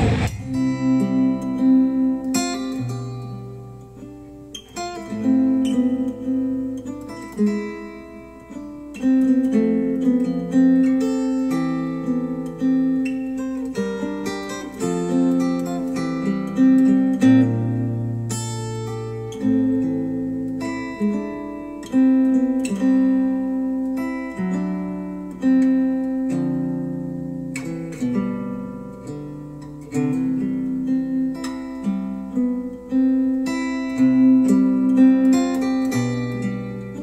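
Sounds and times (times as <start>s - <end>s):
acoustic guitar music over speakers: 0.0s - 37.0s.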